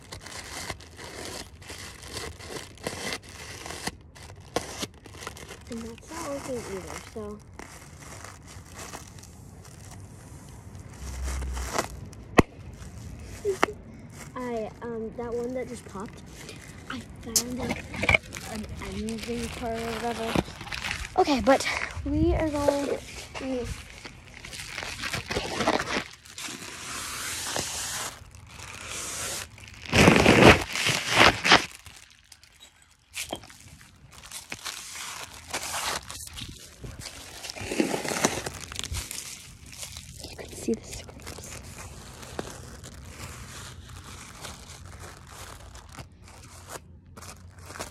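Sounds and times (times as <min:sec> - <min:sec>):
plastic packaging crinkling: 0:00.0 - 0:47.9
scraping and rustling by hand: 0:00.0 - 0:47.9
footsteps on mulch: 0:05.2 - 0:47.9.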